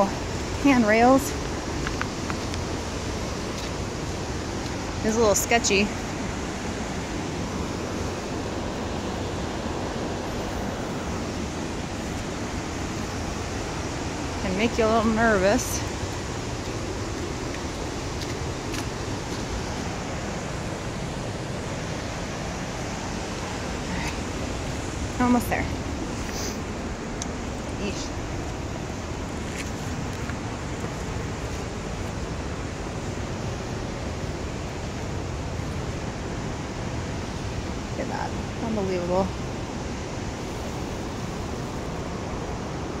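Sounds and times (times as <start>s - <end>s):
whitewater creek rushing: 0.0s - 43.0s.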